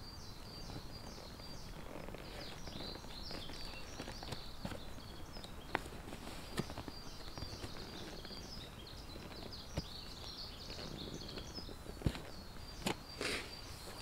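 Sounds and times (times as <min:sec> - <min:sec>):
small birds chirping: 0:00.0 - 0:14.0
footsteps on trail: 0:00.4 - 0:14.0.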